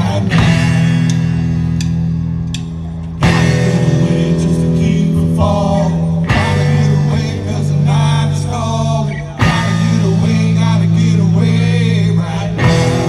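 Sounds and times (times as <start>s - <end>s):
live blues band playing: 0.0s - 13.0s.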